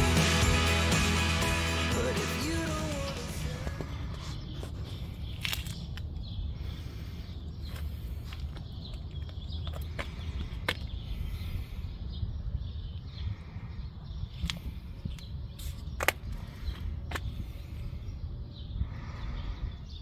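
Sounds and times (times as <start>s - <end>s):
steady low rumble: 0.0s - 20.0s
faint birds chirping: 2.0s - 20.0s.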